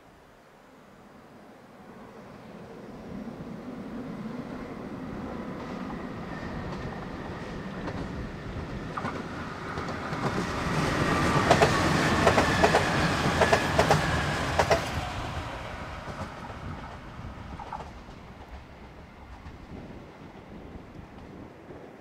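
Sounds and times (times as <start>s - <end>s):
diesel train passing: 1.7s - 22.0s.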